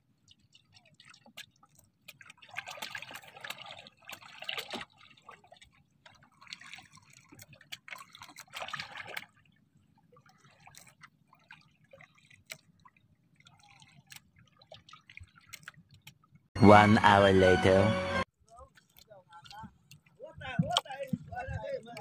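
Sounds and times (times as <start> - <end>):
water sloshing against boat hull: 0.0 - 16.5, 18.4 - 22.0
drips and small splashes: 0.0 - 16.6, 18.3 - 22.0.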